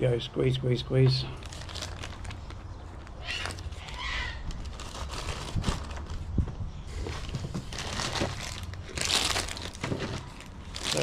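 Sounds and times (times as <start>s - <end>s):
plastic packaging crinkling: 1.4s - 6.3s, 7.0s - 11.0s.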